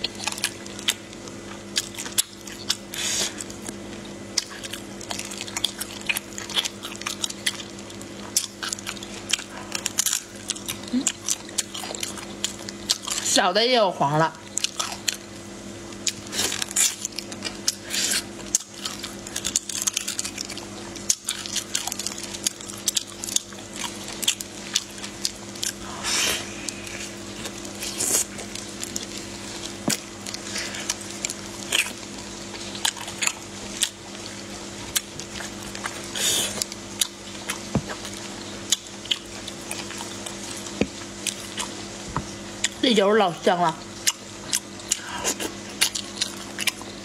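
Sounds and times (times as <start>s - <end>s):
wet chewing of shrimp: 0.0s - 13.4s, 14.4s - 42.8s, 43.8s - 47.0s
steady low hum: 0.0s - 47.0s.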